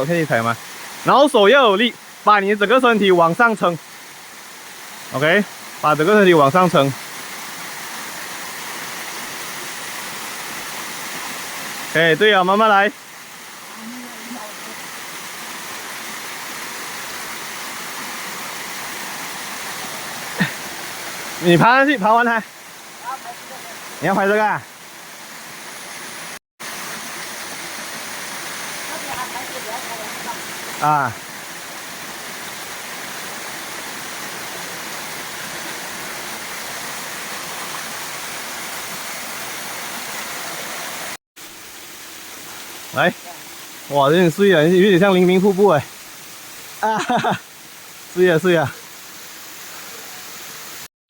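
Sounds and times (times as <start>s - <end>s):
water pouring down waterfall: 0.0s - 50.9s.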